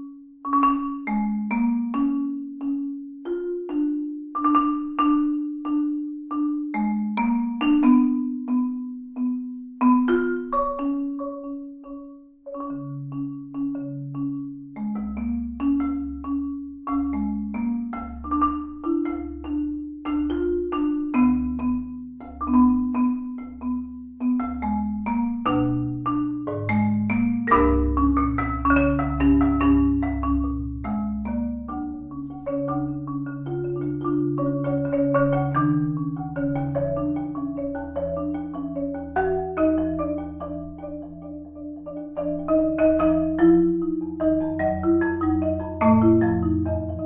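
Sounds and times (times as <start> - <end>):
marimba played with mallets: 0.0 - 47.0.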